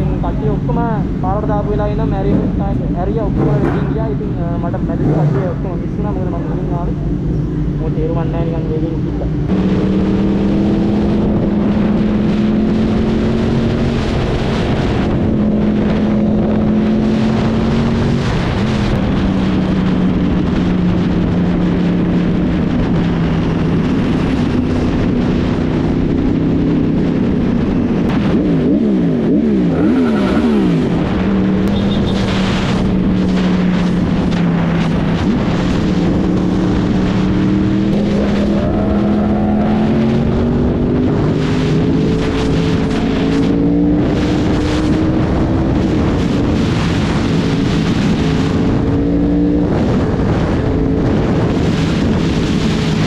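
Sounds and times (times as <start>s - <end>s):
road and wind noise: 0.0s - 53.0s
motorcycle engine at speed: 2.1s - 53.0s.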